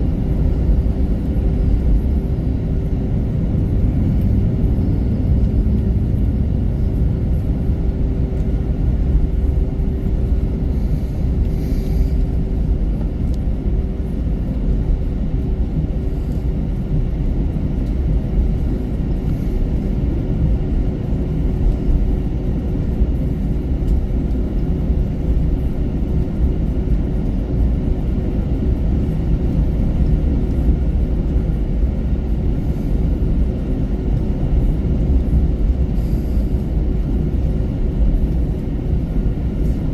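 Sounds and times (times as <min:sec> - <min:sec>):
low airplane cabin rumble: 0:00.0 - 0:39.9.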